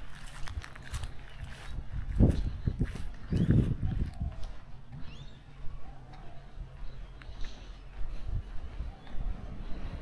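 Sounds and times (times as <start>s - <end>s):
faint footsteps on path: 0.0s - 10.0s
bird chirp: 1.1s - 10.0s.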